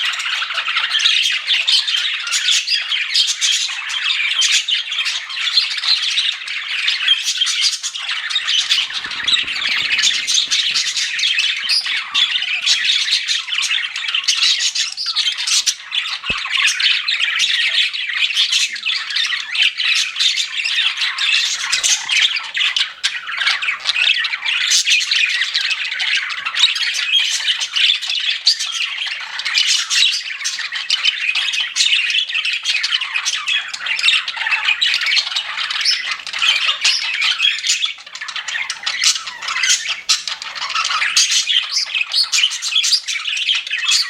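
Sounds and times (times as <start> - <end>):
budgerigars chattering and chirping: 0.0 - 44.0.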